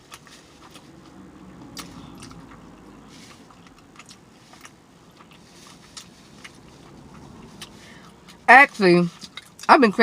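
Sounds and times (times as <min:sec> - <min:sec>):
mouth chewing: 0:00.0 - 0:08.5, 0:09.1 - 0:09.7.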